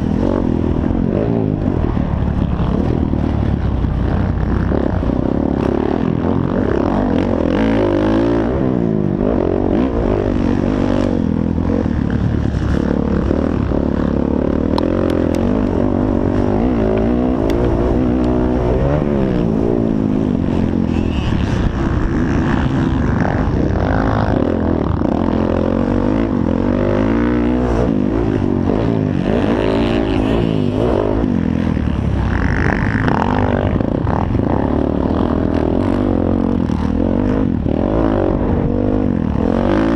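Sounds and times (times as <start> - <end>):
dirt bike engines racing: 0.0 - 39.9.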